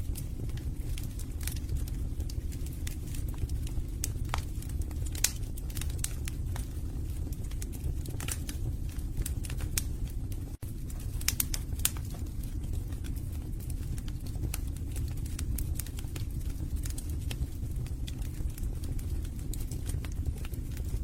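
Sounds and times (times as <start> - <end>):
low rumble of flame: 0.0 - 21.0
wood fire crackling and popping: 0.0 - 21.0.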